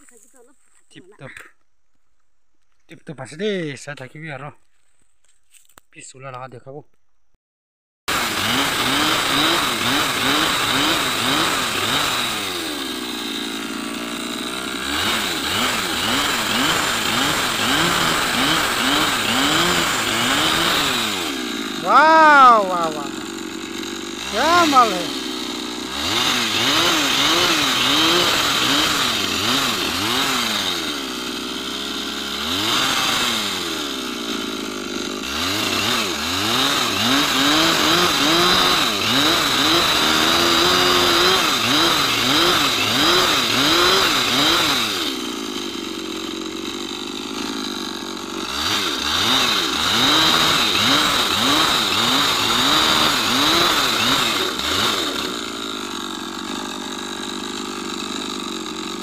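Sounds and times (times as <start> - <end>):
chainsaw cutting wood: 8.1 - 59.0.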